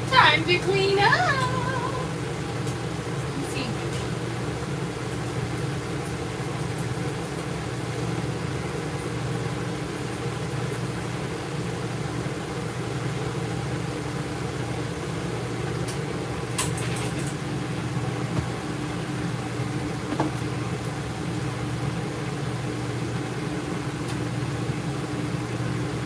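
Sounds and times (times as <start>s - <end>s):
steady low machine hum: 0.0s - 26.0s.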